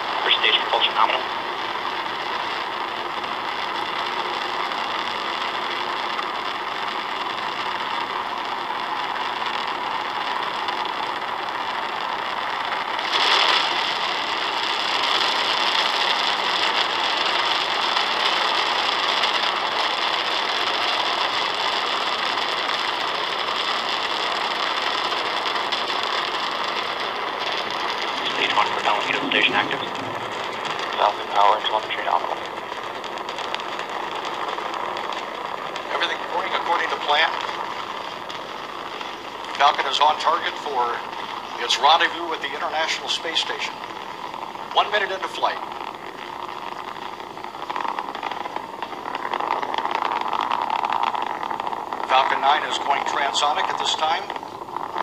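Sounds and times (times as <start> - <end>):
rocket engines roaring through speaker: 0.0 - 55.0.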